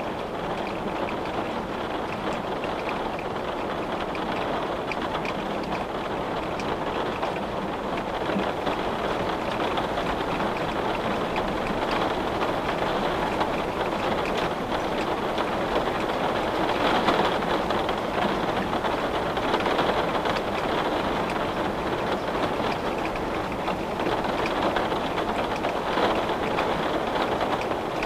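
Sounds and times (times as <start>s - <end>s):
rain on a window: 0.0s - 28.0s.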